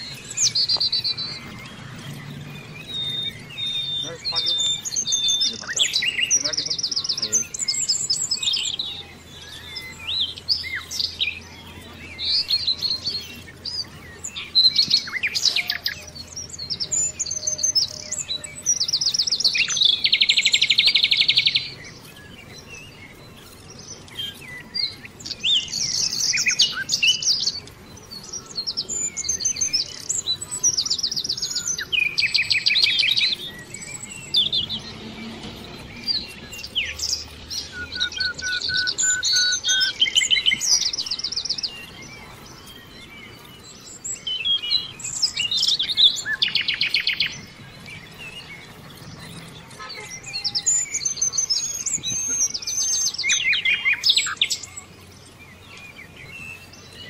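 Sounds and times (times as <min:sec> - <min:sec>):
loud rapid bird trill: 0:00.0 - 0:57.0
songbirds chirping: 0:00.0 - 0:57.0.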